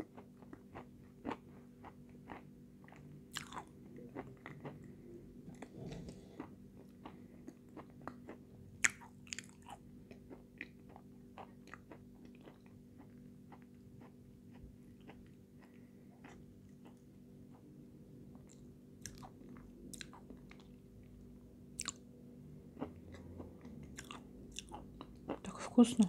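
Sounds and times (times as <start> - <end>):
person chewing crunchily: 0.0 - 17.7, 18.3 - 20.8, 21.8 - 22.0, 22.7 - 25.5
faint steady hum: 0.0 - 26.0.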